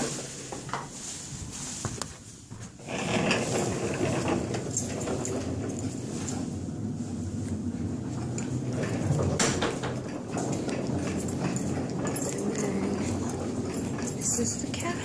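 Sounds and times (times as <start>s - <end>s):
casters rumbling on hard floor: 2.8s - 15.0s
metal frame rattling: 2.9s - 15.0s
metal rack clatter: 3.0s - 15.0s.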